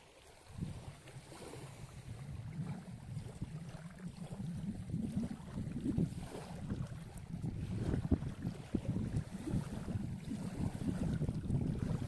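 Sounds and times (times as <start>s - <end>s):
wind buffeting microphone: 0.4s - 12.0s.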